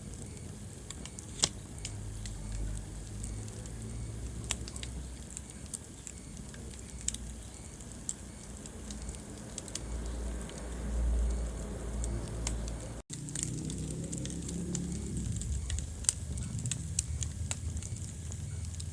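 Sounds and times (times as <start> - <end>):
low rumble of burning: 0.0 - 18.9
wood fire pops and snaps: 0.0 - 18.9.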